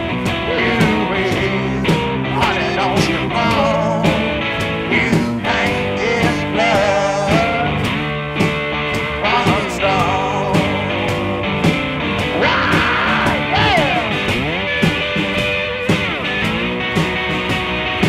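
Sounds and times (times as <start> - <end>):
blues-rock guitar: 0.0 - 18.0
steady drum beat: 0.0 - 18.0.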